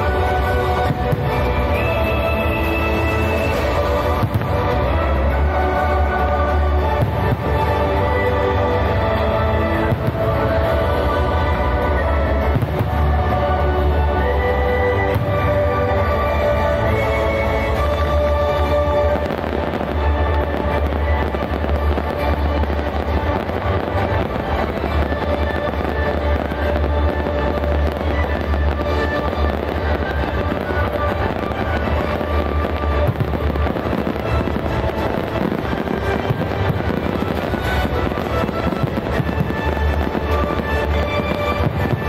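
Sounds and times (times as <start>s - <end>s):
fireworks bangs and crackles: 0.0s - 42.0s
loud music over loudspeakers: 0.0s - 42.0s.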